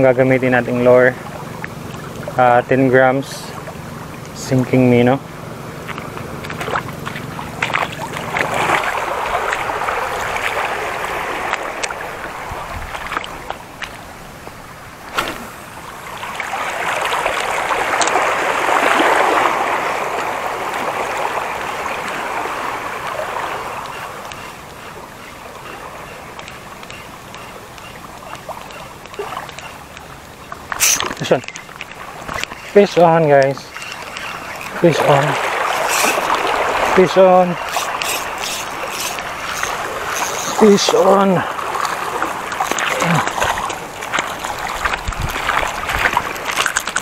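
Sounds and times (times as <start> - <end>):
small waves washing over shallows: 0.0 - 47.0.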